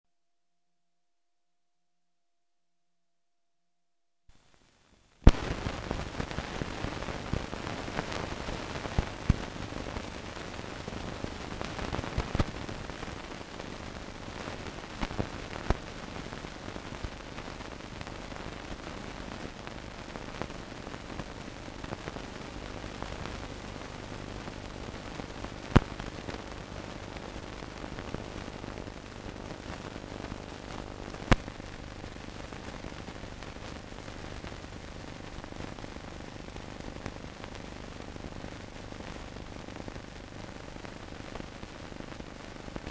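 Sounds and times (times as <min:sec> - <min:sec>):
film soundtrack surface hiss: 0:04.3 - 0:42.9.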